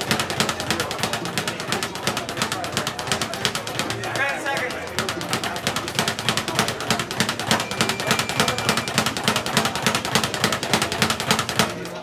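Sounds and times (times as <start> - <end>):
speed bag rattling: 0.0 - 12.0.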